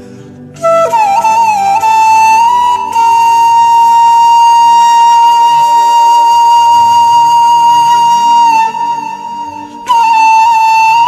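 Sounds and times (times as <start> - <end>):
held melody note: 0.0 - 11.0
soft low accompaniment: 0.0 - 11.0.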